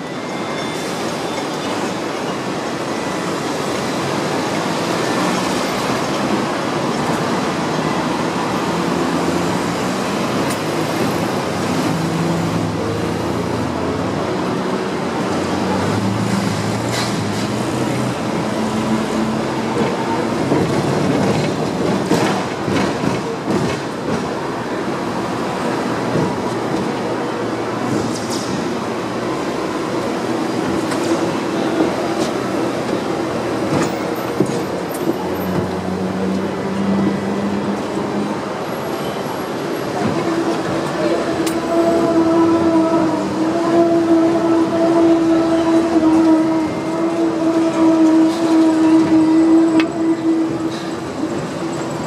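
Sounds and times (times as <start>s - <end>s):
tram wheels rumbling on rails: 0.0s - 52.0s.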